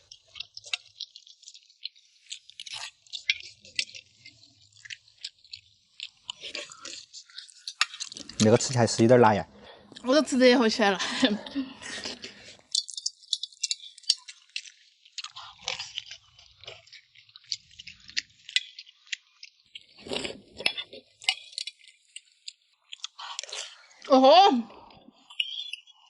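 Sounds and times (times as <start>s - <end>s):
person chewing food: 0.0s - 10.1s, 11.2s - 24.1s, 24.7s - 26.0s.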